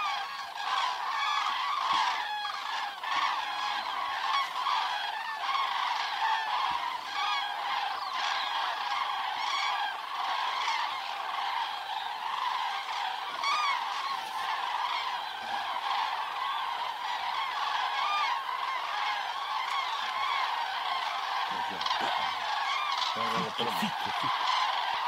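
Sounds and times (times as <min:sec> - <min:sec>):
cranes bugling calls: 0:00.0 - 0:25.0.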